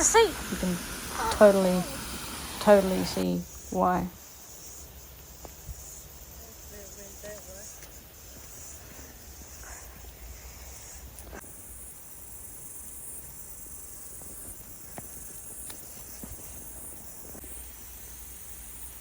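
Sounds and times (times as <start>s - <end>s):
shrill insect chorus: 0.0s - 19.0s.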